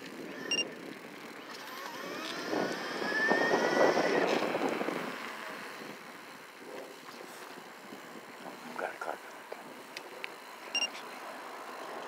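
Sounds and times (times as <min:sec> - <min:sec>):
electric bike motor whining: 0:00.0 - 0:12.0
wind and road noise: 0:00.0 - 0:12.0.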